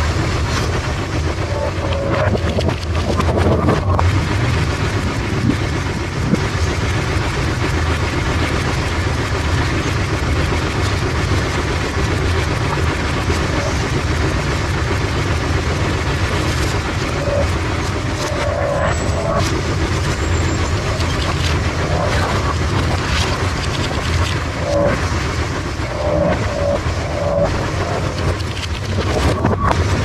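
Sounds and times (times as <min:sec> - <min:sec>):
pinsetter machinery rumbling: 0:00.0 - 0:30.0.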